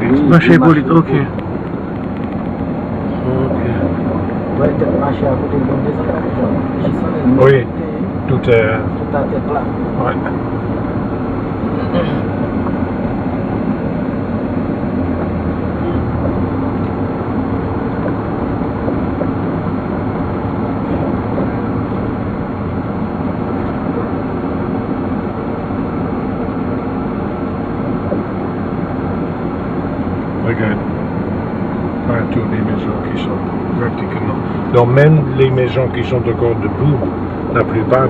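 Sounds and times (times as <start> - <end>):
road noise: 0.0 - 38.0
vehicle engine: 0.0 - 38.0.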